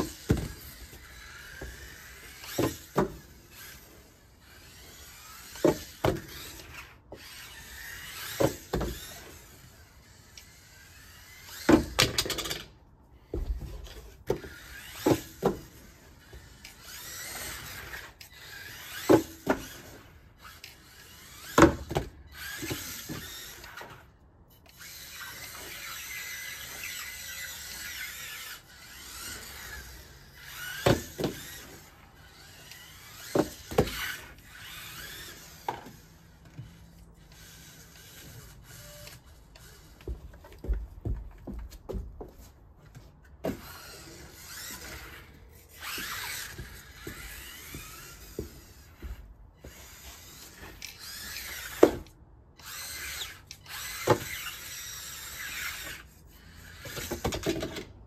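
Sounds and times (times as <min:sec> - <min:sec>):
small electric motor whining: 0:00.0 - 0:41.2, 0:42.2 - 0:57.9
toy car crashing and tumbling: 0:00.0 - 0:42.5, 0:43.2 - 0:58.0.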